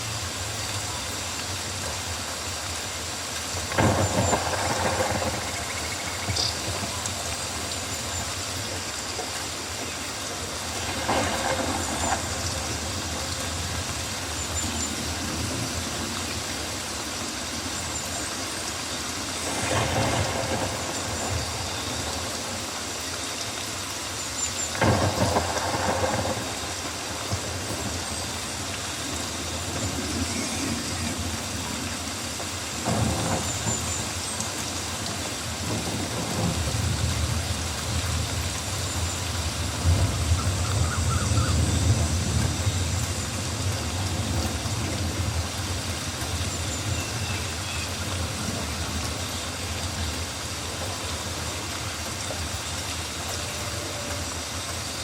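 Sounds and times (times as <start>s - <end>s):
louder rainforest sounds: 0.0s - 55.0s
rain falling: 0.0s - 55.0s.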